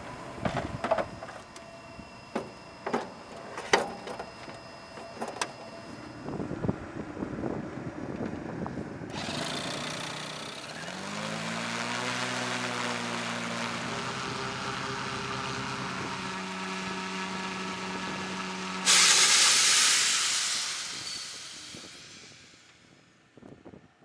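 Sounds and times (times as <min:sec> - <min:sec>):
small engine droning: 0:04.0 - 0:23.3.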